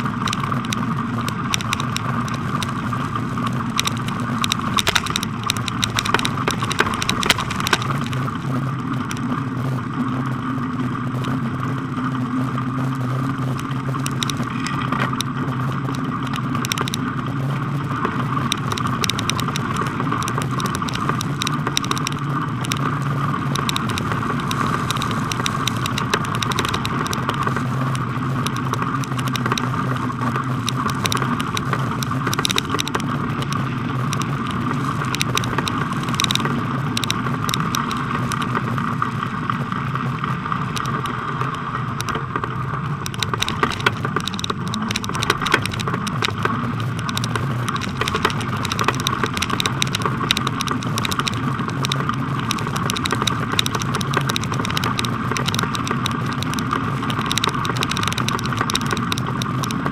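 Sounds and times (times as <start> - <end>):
bicycle tyres on packed snow: 0.0 - 59.9
bike rattles and clicks: 0.0 - 59.9.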